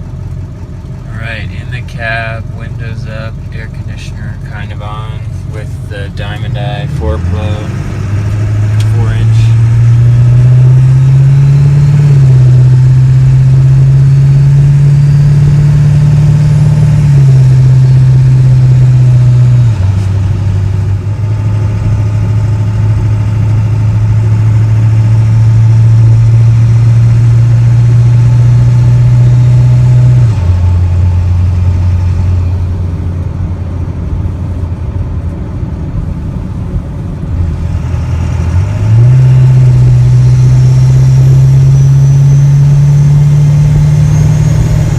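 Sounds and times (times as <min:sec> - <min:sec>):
diesel engine drone: 0:00.0 - 0:44.9.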